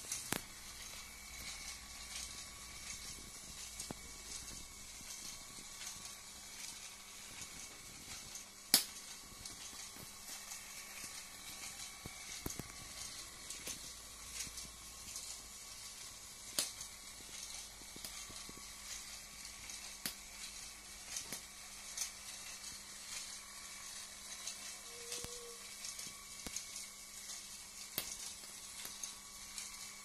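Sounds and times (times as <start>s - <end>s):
toy train motor hum: 0.0s - 30.0s.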